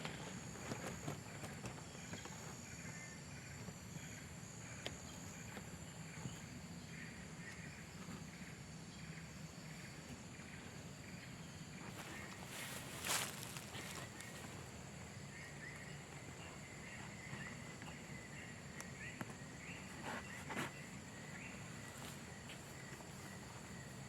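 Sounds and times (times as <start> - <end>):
insect chorus buzzing and chirping: 0.0 - 24.0.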